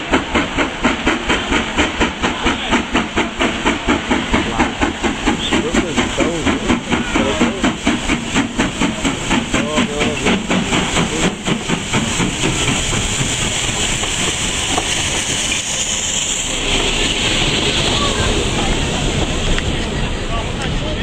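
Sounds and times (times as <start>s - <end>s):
rush of steam and running noise: 0.0s - 21.0s
steam locomotive exhaust chuffs: 0.0s - 21.0s.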